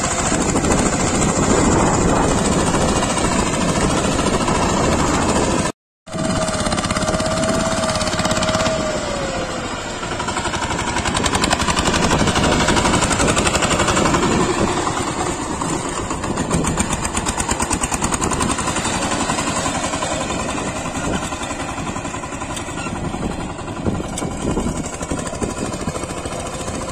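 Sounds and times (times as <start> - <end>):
diesel tiller engine knocking: 0.0 - 26.9.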